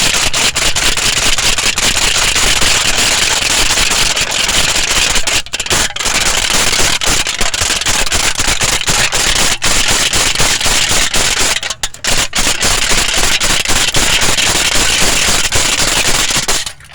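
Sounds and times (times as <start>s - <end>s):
tin foil crinkling: 0.0s - 16.9s.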